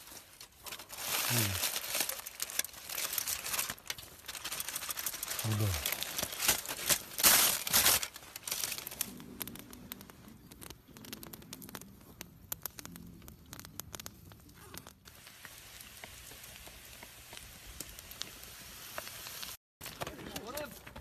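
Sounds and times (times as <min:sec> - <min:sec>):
aluminium foil crinkling: 0:00.0 - 0:21.0
faint crackles and clicks: 0:00.0 - 0:21.0.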